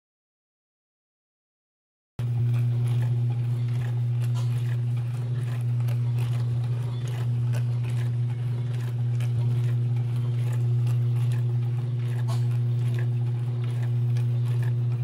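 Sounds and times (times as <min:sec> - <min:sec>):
dishwasher pump humming: 0:02.2 - 0:15.0.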